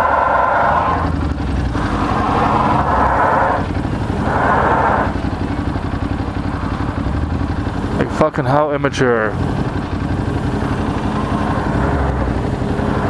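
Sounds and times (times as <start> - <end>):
car engine drone: 0.0 - 13.0
tyres spinning and squealing: 0.0 - 13.0.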